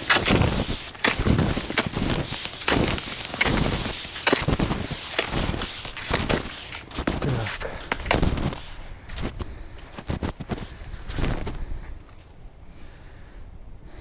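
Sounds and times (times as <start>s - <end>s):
skis crunching through snow: 0.0s - 11.6s.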